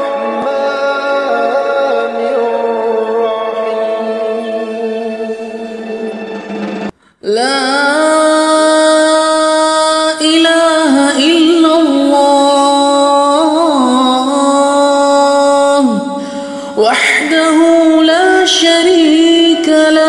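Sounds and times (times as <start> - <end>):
person singing ornamented notes: 0.0 - 20.0.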